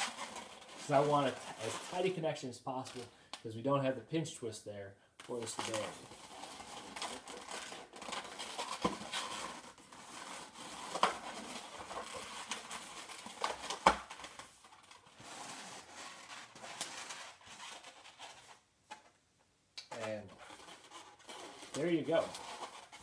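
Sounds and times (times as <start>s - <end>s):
balloons rubbing and squeaking: 0.0s - 3.1s, 5.3s - 18.7s, 19.9s - 23.0s.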